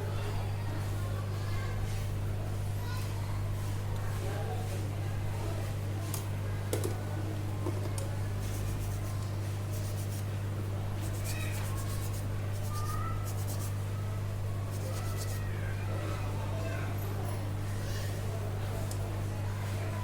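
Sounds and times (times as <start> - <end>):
hot-air station humming: 0.0 - 20.0.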